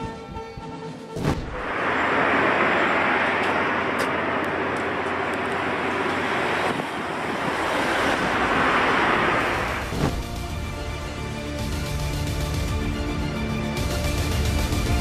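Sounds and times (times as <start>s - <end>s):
road traffic hiss: 1.4s - 15.0s.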